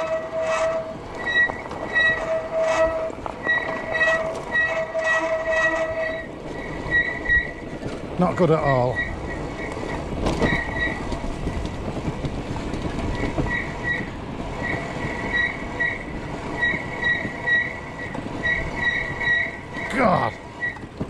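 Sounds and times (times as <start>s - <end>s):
disc brakes squealing: 0.0s - 7.8s, 8.4s - 11.2s, 13.1s - 20.9s
low rumble of bike ride: 0.0s - 21.0s.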